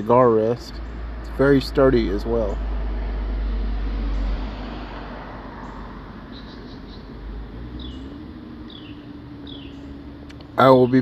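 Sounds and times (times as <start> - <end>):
distant traffic: 0.0 - 11.0.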